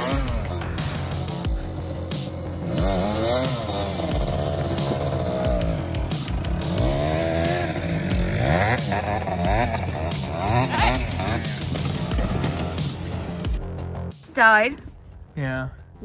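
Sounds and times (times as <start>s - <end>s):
dirt bike engine revving: 0.0s - 13.6s.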